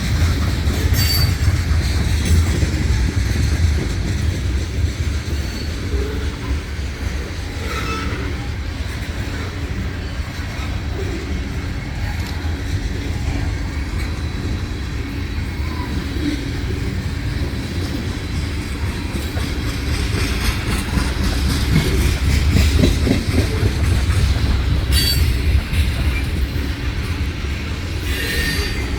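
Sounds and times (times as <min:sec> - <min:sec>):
freight train wheels rumbling on rail: 0:00.0 - 0:28.9.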